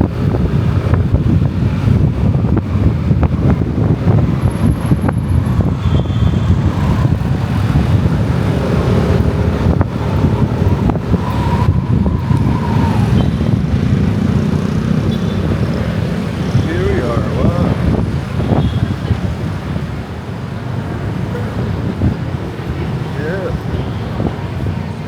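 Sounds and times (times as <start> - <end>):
motorcycle engine and road rumble: 0.0 - 25.0
traffic noise: 0.0 - 25.0
wind buffeting microphone: 0.0 - 25.0.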